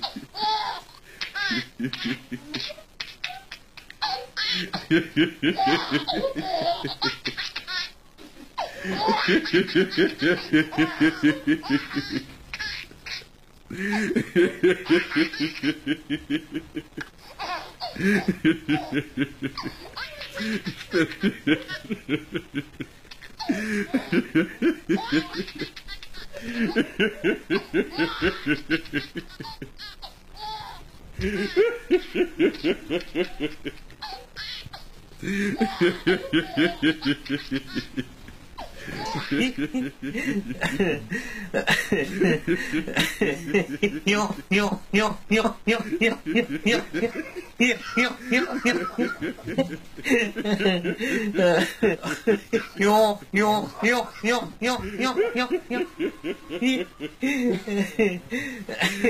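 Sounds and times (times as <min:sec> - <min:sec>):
person laughing heartily: 0:00.0 - 0:02.9, 0:04.4 - 0:07.5, 0:08.2 - 0:12.4, 0:13.7 - 0:30.0, 0:31.2 - 0:34.3, 0:35.2 - 0:59.0.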